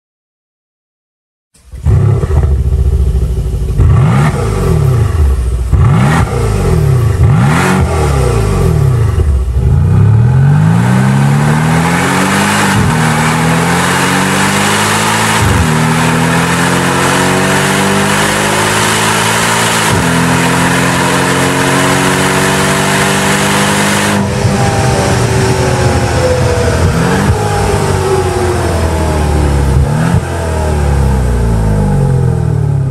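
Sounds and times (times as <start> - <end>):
car engine revving and accelerating: 1.6 - 32.9.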